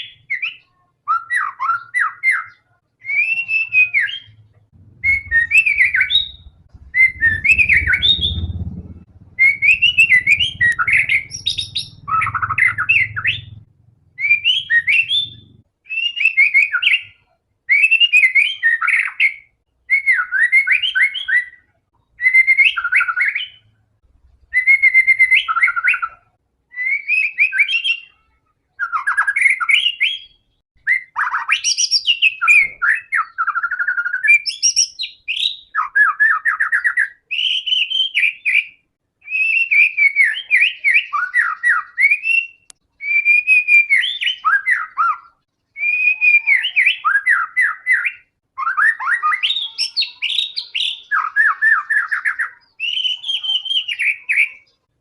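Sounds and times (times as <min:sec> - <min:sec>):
bird whistled song: 0:00.0 - 0:13.6, 0:14.2 - 0:23.7, 0:24.5 - 0:28.2, 0:28.8 - 0:54.8.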